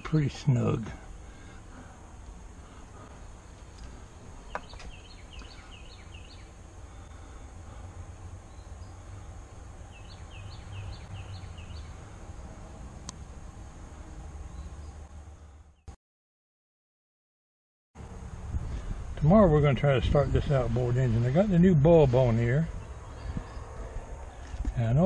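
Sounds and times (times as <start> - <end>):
low outdoor rumble: 0.0 - 15.8, 18.0 - 25.0
songbird singing: 0.0 - 15.9, 18.5 - 25.0.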